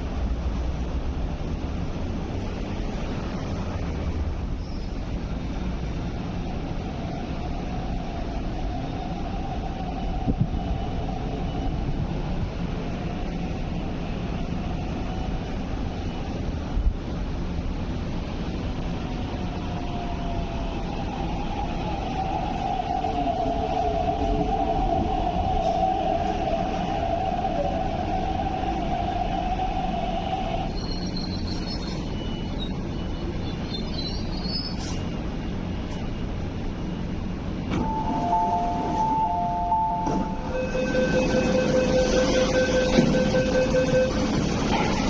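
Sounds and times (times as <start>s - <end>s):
electric train rumbling: 0.0s - 45.0s
train whine gliding down: 5.2s - 45.0s.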